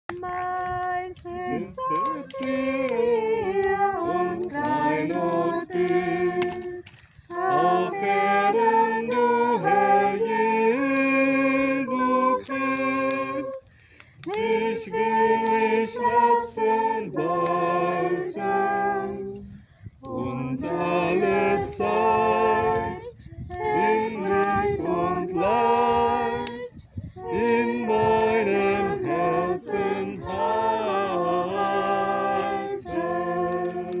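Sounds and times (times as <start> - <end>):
group singing a hymn a cappella: 0.1 - 34.0.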